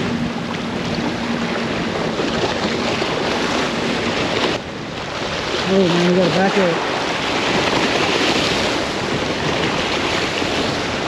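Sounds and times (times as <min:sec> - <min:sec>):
choppy waves against a seawall: 0:00.0 - 0:11.0
wind buffeting microphone: 0:00.0 - 0:11.0.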